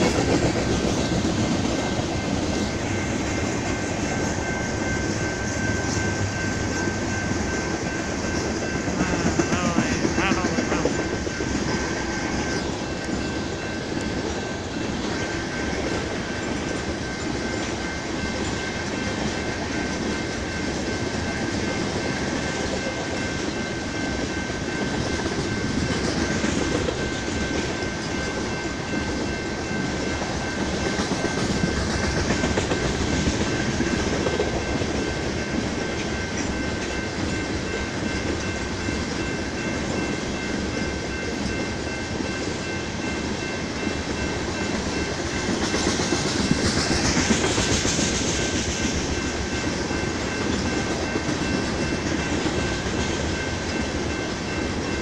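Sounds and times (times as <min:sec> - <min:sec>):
freight train rumble and wheel clatter: 0:00.0 - 0:55.0
steady high-pitched tone: 0:00.0 - 0:55.0.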